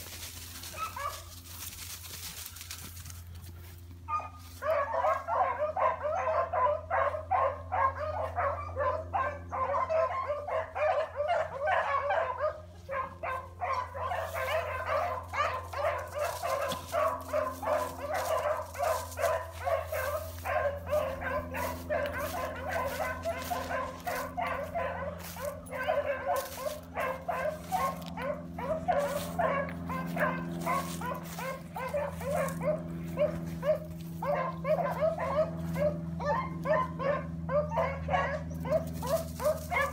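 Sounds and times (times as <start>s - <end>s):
hounds baying: 0.4s - 39.9s.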